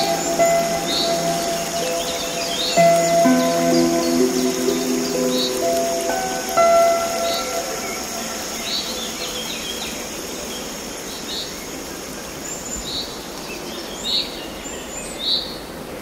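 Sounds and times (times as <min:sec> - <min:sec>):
falling water rushing: 0:00.0 - 0:13.5.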